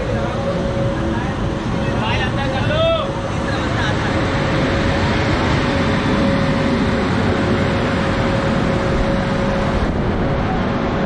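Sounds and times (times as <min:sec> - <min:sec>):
constant whine: 0:00.0 - 0:11.0
train rumbling: 0:00.0 - 0:11.0.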